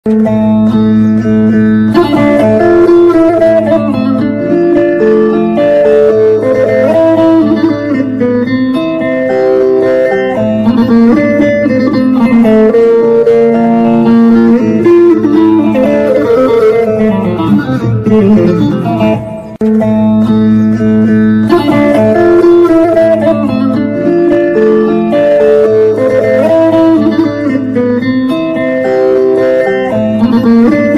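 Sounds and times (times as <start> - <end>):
plucked lute melody: 0.1 - 30.9.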